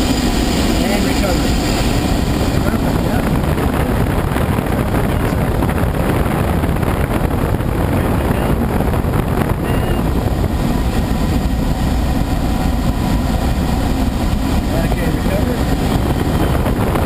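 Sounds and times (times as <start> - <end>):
airflow rushing over canopy: 0.0 - 17.0.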